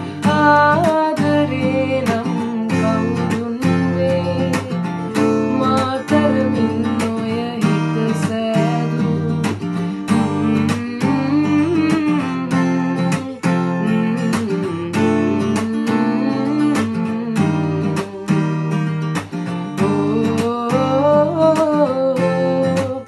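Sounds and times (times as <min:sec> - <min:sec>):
acoustic guitar strumming: 0:00.0 - 0:23.0
woman singing: 0:00.0 - 0:23.0.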